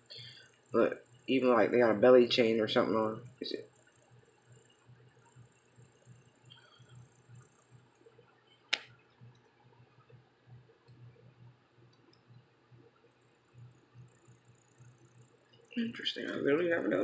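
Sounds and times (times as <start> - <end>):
faint low room hum: 0.0 - 17.0.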